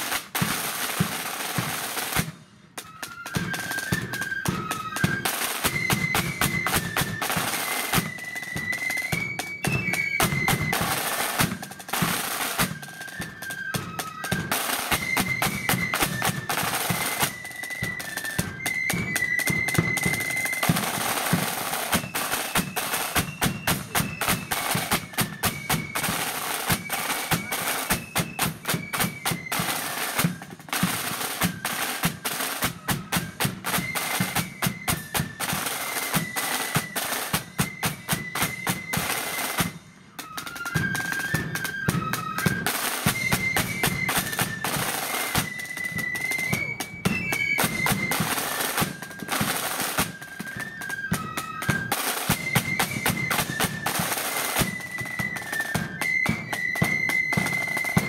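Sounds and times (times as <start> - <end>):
snare drums rolling: 0.0 - 58.0
high flute melody: 2.7 - 58.0.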